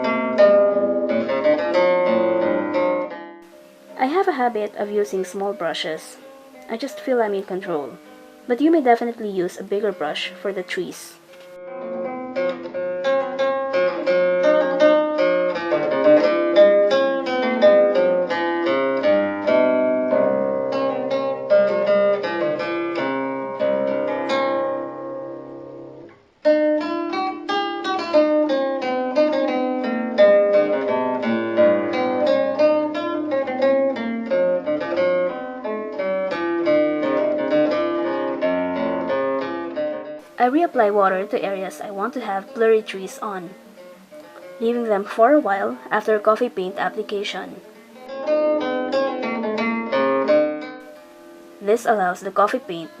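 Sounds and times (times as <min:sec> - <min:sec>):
plucked guitar melody: 0:00.0 - 0:53.0.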